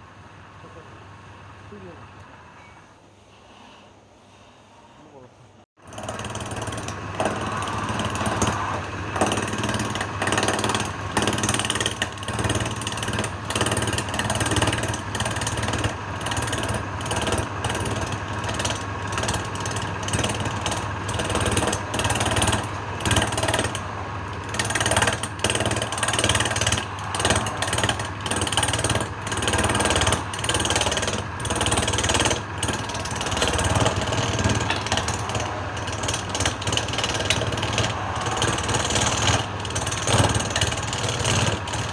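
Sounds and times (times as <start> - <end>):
lathe motor hum: 5.8 - 41.9
tool cutting spinning wood: 5.8 - 41.9.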